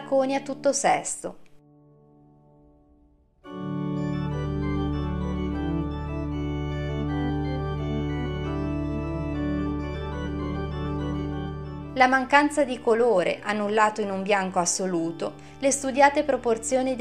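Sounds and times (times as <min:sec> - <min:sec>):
organ music: 0:01.7 - 0:17.0.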